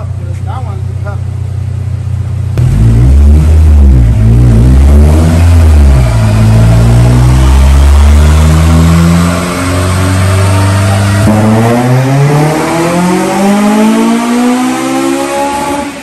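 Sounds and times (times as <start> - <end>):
car engine revving under load: 1.6 - 16.0.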